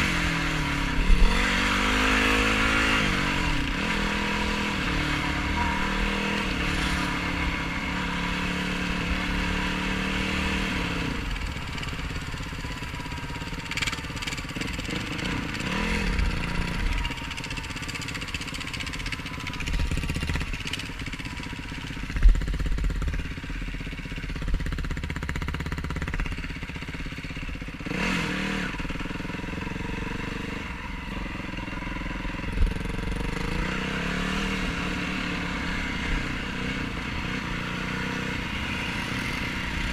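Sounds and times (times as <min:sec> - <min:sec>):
quad engine revving off-road: 0:00.0 - 0:39.9.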